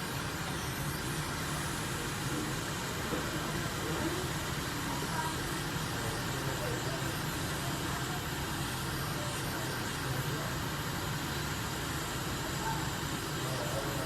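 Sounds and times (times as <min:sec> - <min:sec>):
hot air station hissing: 0:00.0 - 0:14.0.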